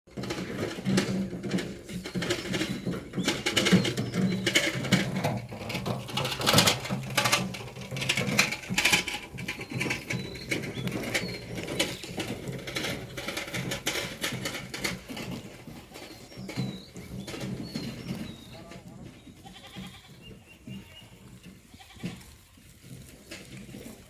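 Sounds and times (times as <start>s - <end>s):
goats moving and feeding: 0.1s - 24.0s.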